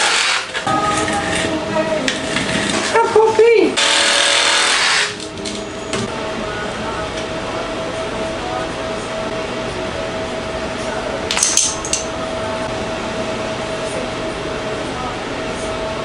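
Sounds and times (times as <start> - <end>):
workshop background hum: 0.0 - 16.0.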